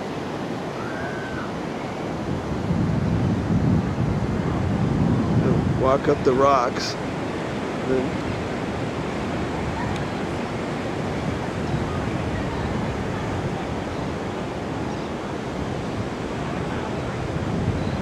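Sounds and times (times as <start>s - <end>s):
surf rushing: 0.0s - 18.0s
wind on microphone: 0.0s - 18.0s.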